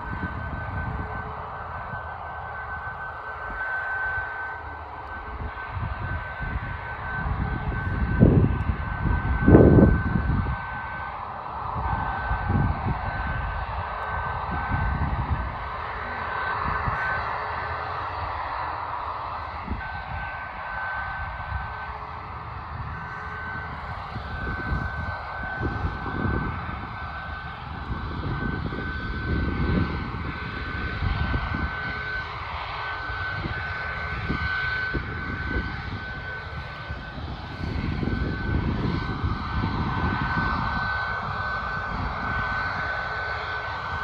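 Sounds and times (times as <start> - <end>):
airliner engines whining: 0.0 - 44.0
wind buffeting microphone: 0.0 - 44.0.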